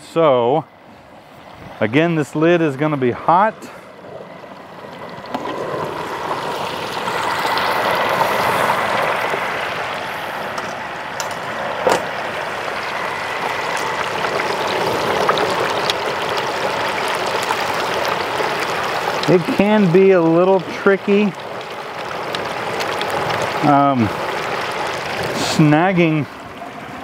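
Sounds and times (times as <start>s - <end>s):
oil bubbling and sizzling: 0.7s - 27.0s.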